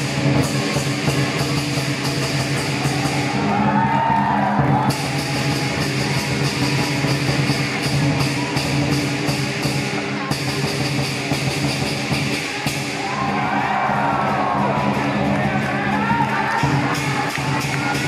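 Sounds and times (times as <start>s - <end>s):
big drum beating: 0.0s - 18.0s
cymbals clashing: 0.0s - 18.0s.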